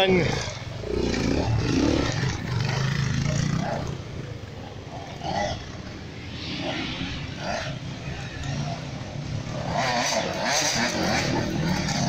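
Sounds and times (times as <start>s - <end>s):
dirt bike engine passing by: 0.0s - 12.0s.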